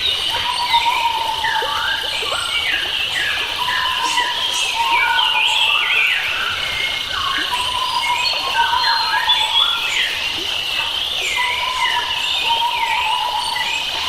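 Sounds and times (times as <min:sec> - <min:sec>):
forest or stream hiss: 0:00.0 - 0:14.0
wild birds singing: 0:00.0 - 0:14.0.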